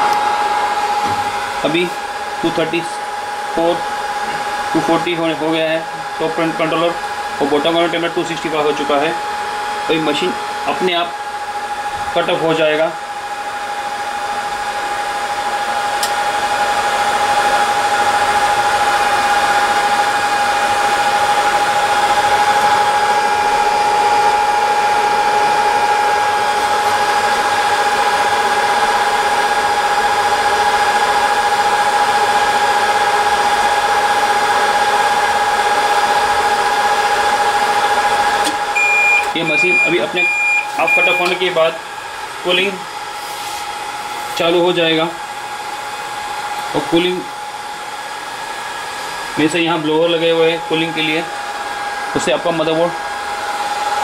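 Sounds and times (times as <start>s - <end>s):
hot-air blowers whooshing: 0.0s - 54.0s.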